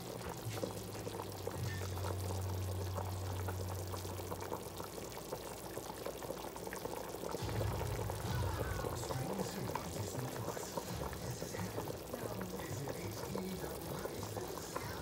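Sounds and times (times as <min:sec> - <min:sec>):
low steady hum: 0:00.0 - 0:05.7, 0:07.3 - 0:15.0
soup boiling and bubbling: 0:00.0 - 0:15.0.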